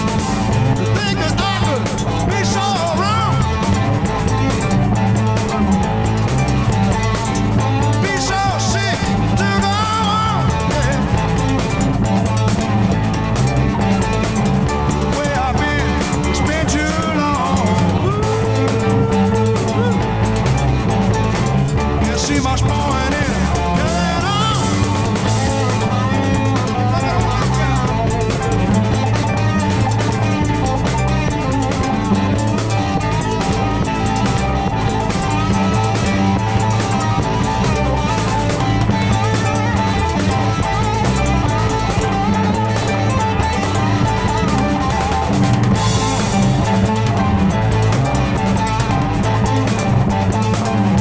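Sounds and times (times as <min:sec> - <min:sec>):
lead line bending in pitch: 0:00.0 - 0:51.0
rock band playing: 0:00.0 - 0:51.0.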